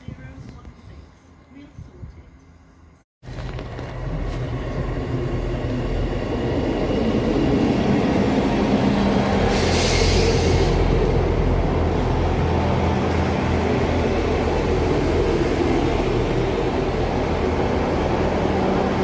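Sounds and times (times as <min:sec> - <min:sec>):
diesel train engines running: 0:03.3 - 0:19.0.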